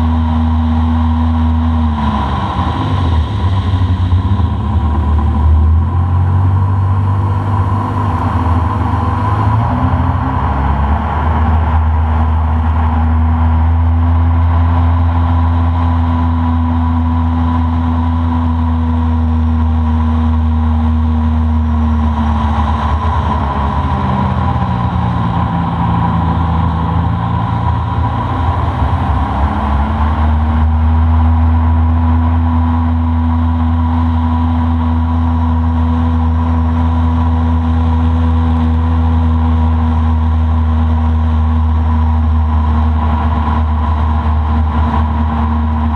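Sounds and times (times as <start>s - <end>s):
boat engine running: 0.0s - 45.9s.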